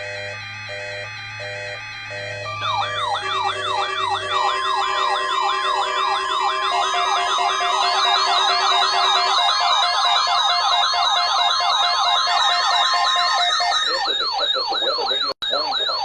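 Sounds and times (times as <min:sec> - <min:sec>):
electronic siren alarm tones: 0:00.0 - 0:16.0.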